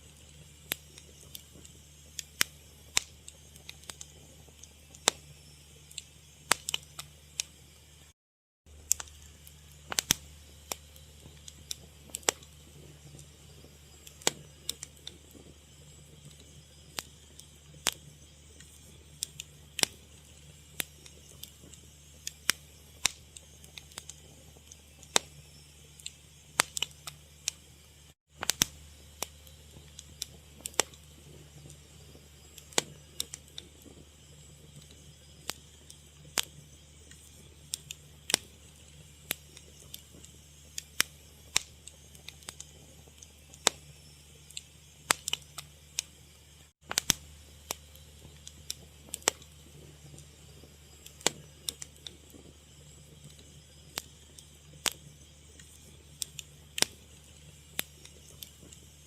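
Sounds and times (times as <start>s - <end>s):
wood fire crackling: 0.0s - 8.1s, 8.7s - 59.0s.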